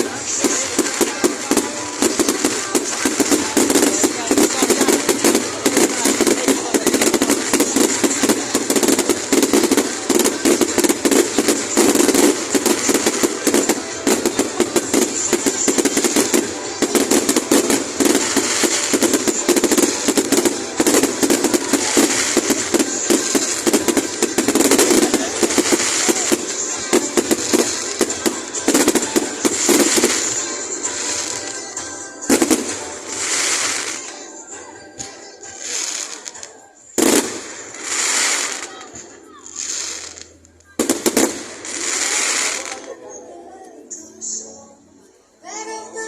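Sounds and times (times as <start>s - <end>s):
fireworks bangs and crackles: 0.0s - 43.1s.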